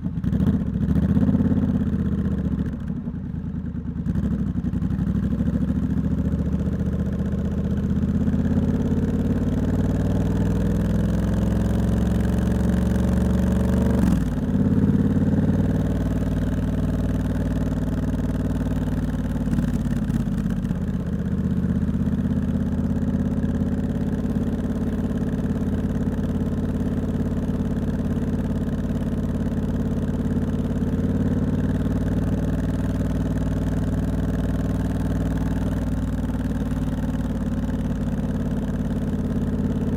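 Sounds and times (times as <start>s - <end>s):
motorcycle engine revving: 4.0s - 39.9s.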